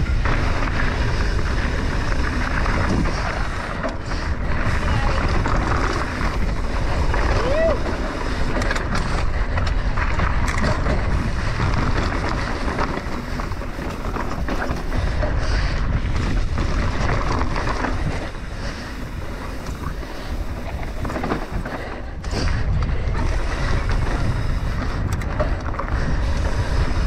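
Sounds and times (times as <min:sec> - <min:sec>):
bike rattling: 0:00.0 - 0:27.0
bike tyres rolling on dirt: 0:00.0 - 0:27.0
wind buffeting microphone: 0:00.0 - 0:27.0.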